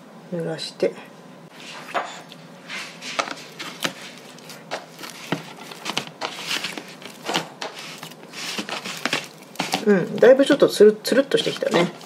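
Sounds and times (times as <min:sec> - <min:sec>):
hands squelching sticky dough: 0:02.2 - 0:12.0.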